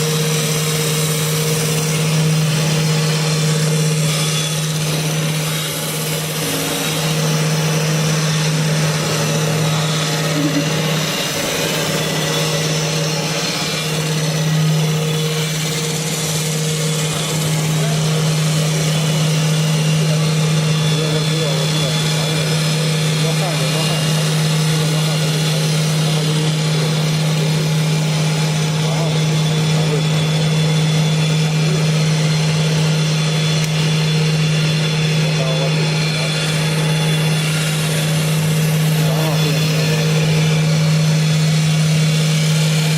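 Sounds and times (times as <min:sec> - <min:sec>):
cutting tools shaving wood: 0:00.0 - 0:42.9
lathe motor hum: 0:00.0 - 0:42.9.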